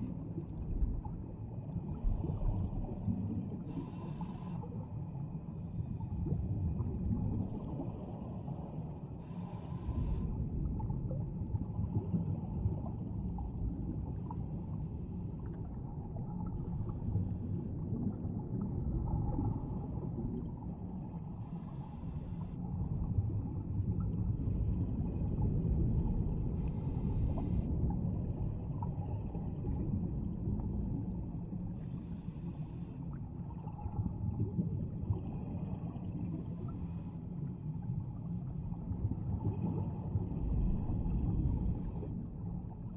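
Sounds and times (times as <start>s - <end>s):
low underwater rumble: 0.0s - 42.9s.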